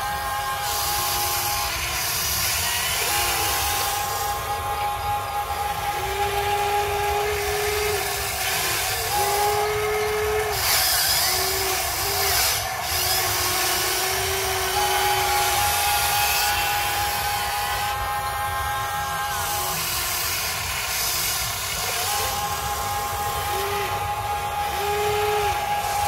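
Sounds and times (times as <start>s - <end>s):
toy excavator motors whining: 0.0s - 26.0s.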